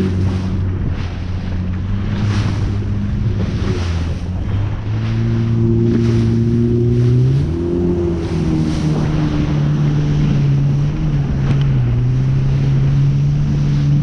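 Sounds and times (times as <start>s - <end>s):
jet ski engine running: 0.0s - 14.0s
water rushing: 0.0s - 14.0s.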